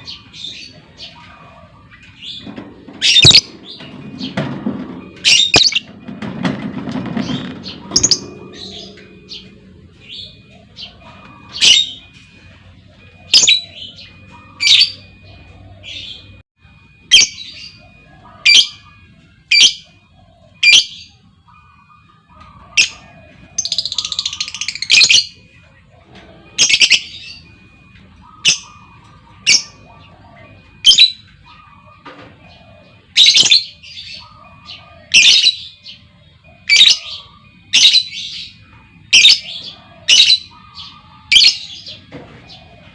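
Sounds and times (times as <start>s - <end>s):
lovebirds squawking: 0.0s - 16.4s, 19.5s - 42.9s.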